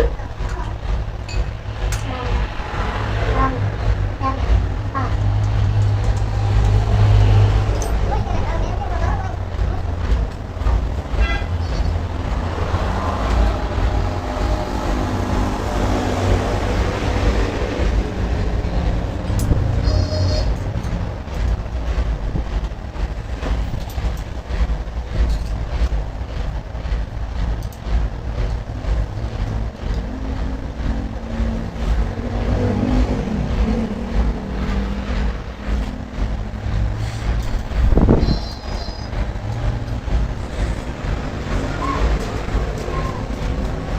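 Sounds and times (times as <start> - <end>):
sharp clicks and knocks: 0.0 - 43.9
vehicle engine rumbling: 0.0 - 43.9.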